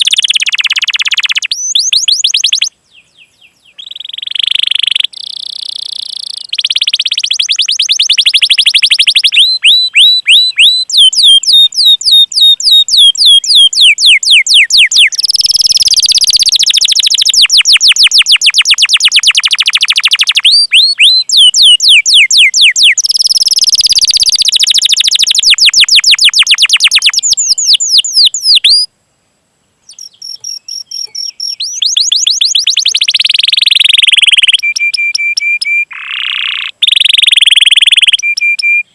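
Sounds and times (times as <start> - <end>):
canary singing: 0.0 - 28.9, 29.8 - 38.9.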